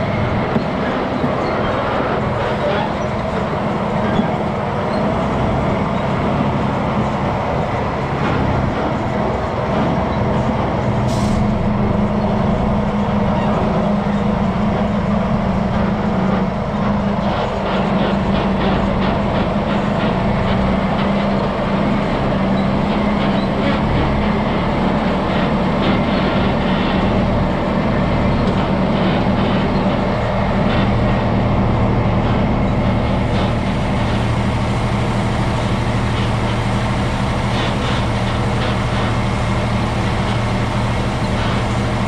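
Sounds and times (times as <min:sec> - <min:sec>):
truck diesel engine droning: 0:00.0 - 0:42.0.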